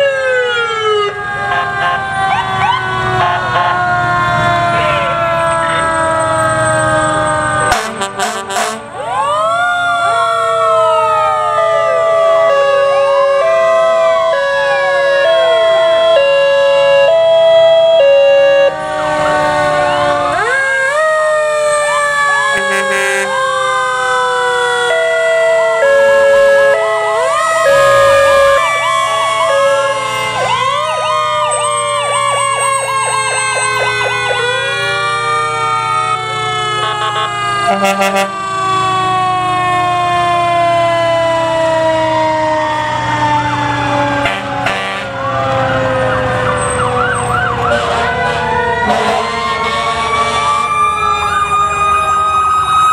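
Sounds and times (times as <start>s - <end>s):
fast warbling siren yelp: 0.0s - 52.9s
fire truck sirens wailing: 0.0s - 52.9s
two-tone hi-lo siren: 0.0s - 52.9s.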